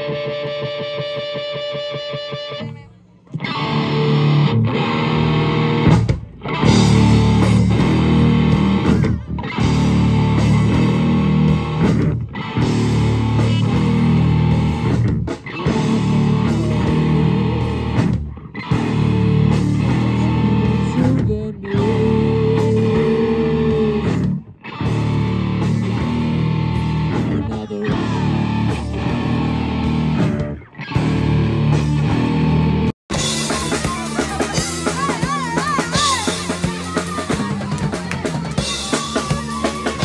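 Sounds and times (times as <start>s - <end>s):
rock band playing: 0.0s - 40.0s.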